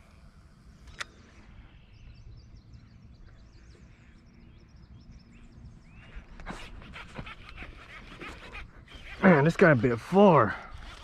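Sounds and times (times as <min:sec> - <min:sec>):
faint bird chirps: 0:00.2 - 0:09.6.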